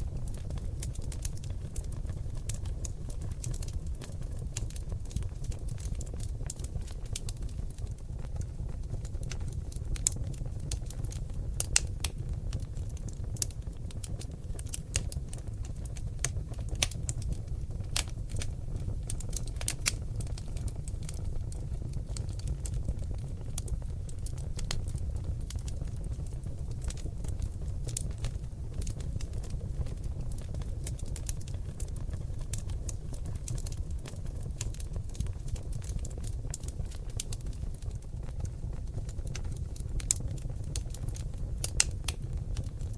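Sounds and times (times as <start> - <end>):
log fire popping and snapping: 0.0 - 42.9
low rumble of flames: 0.0 - 42.9.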